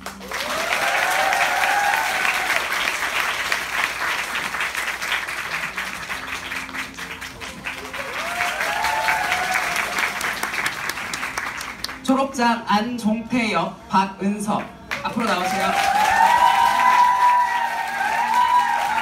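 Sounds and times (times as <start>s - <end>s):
audience applause: 0.0s - 12.0s, 14.9s - 19.0s.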